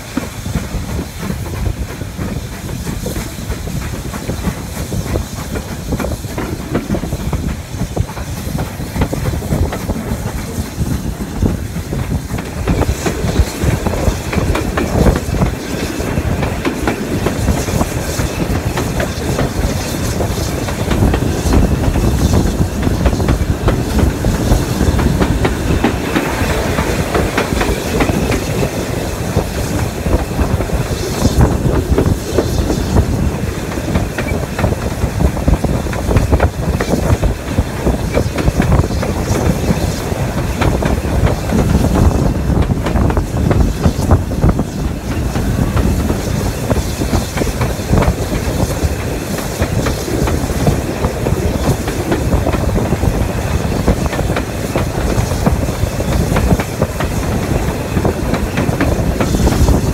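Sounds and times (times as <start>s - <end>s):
train carriages rumbling: 0.0s - 59.9s.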